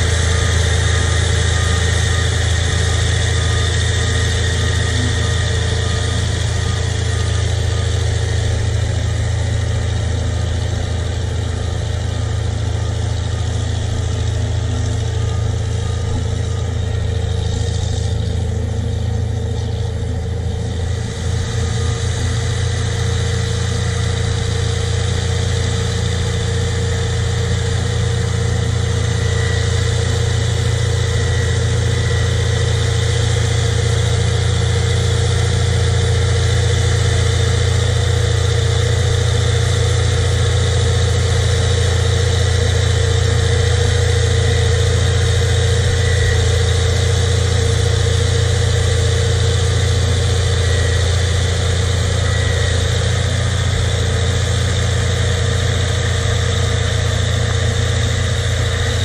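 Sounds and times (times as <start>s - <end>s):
bulldozer diesel engine drone: 0.0s - 59.0s
faint high whine: 0.0s - 59.0s.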